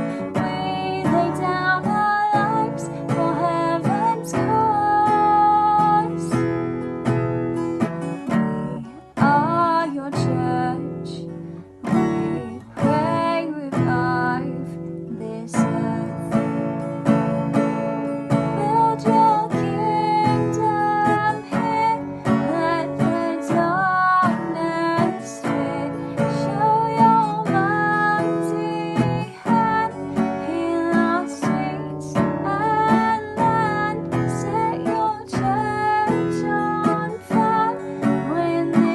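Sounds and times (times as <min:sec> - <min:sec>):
person singing: 0:00.0 - 0:06.4, 0:08.6 - 0:11.2, 0:11.9 - 0:16.4, 0:18.4 - 0:38.9
strummed acoustic guitar: 0:00.0 - 0:38.9.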